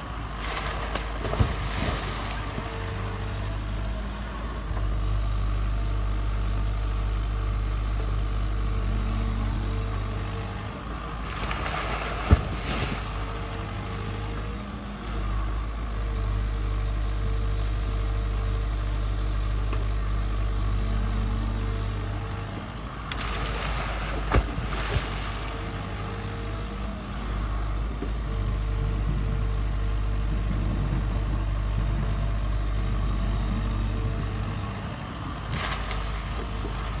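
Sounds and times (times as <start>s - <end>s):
excavator diesel engine whining: 0.0s - 37.0s.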